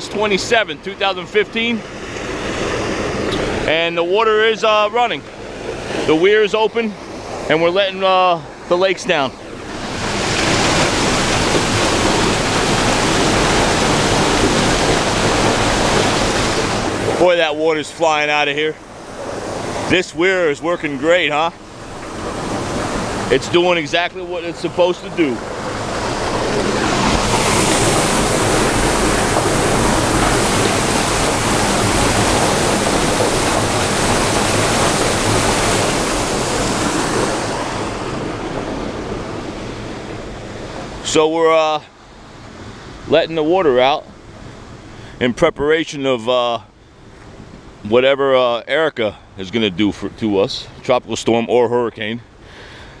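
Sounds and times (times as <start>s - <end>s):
water rushing through a weir: 0.0s - 45.2s.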